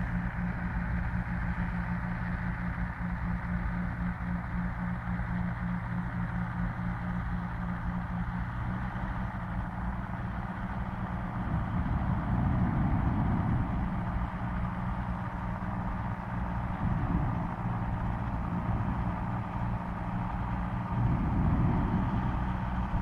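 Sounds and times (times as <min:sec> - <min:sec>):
airship engines droning: 0:00.0 - 0:23.0.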